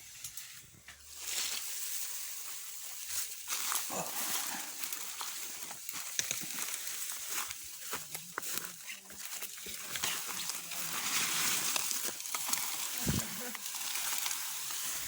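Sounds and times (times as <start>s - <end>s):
dry branches rustling and snapping: 0.1s - 15.0s.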